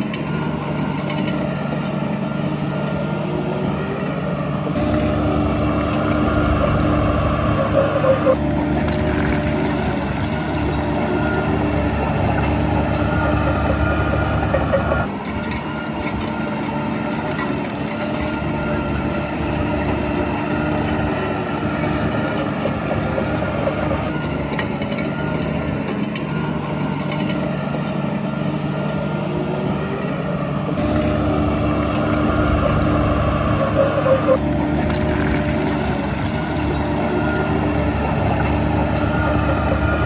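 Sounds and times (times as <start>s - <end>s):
heavy diesel engine droning: 0.0s - 40.0s.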